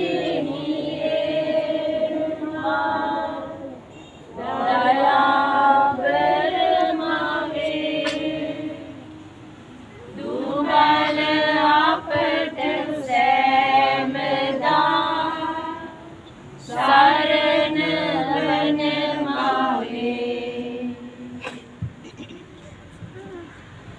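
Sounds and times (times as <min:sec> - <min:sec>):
group singing a hymn: 0:00.0 - 0:22.0.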